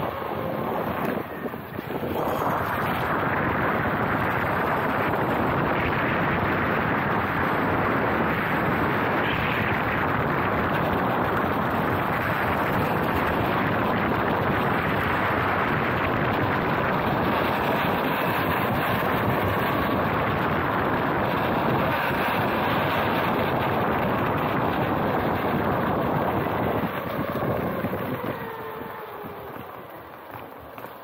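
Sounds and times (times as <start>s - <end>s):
skateboard wheels rolling: 0.0s - 31.0s
wind rushing on microphone: 0.0s - 31.0s.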